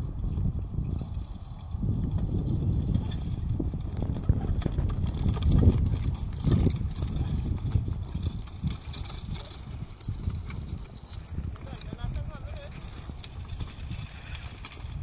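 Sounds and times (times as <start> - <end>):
harness and harrow clatter: 0.0 - 15.0
wind on microphone: 0.0 - 15.0.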